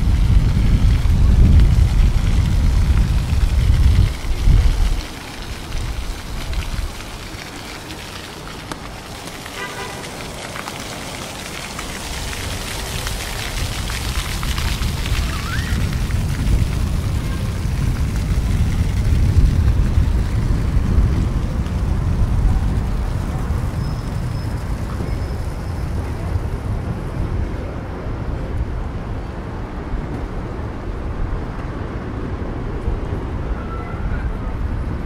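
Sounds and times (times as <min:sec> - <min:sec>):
low outdoor rumble: 0:00.0 - 0:09.4, 0:10.5 - 0:33.5.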